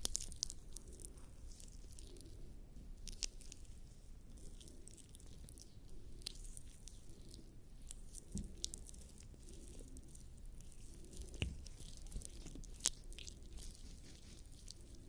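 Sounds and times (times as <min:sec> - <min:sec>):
wet sticky jelly squelching: 0:00.0 - 0:15.0.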